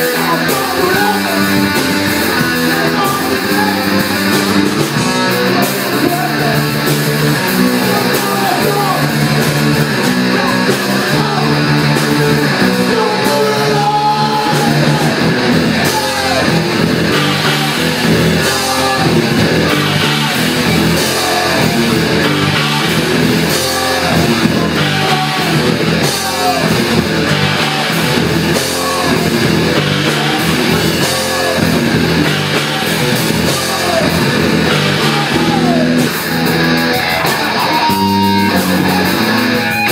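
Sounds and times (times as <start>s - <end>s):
person singing: 0.0s - 36.5s
drum kit: 0.0s - 39.9s
electric guitar: 0.0s - 39.9s.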